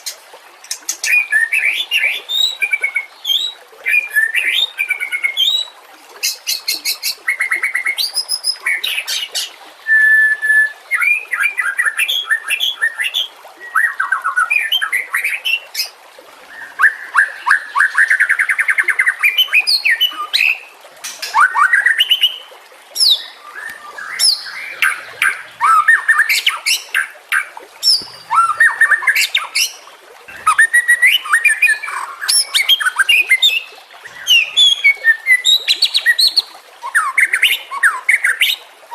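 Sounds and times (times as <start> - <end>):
songbird singing whistles and trills: 1.0 - 15.6, 16.5 - 20.6, 21.2 - 38.9.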